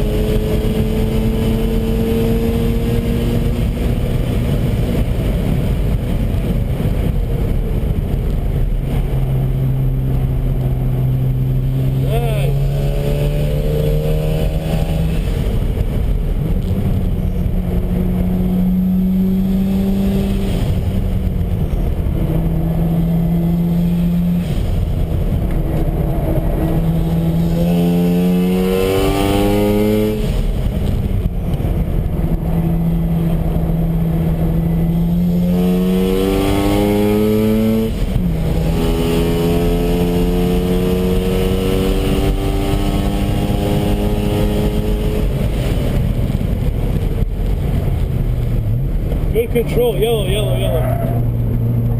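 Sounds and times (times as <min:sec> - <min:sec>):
car engine revving: 0:00.0 - 0:51.9
road noise: 0:00.0 - 0:51.9
wind noise: 0:00.0 - 0:51.9.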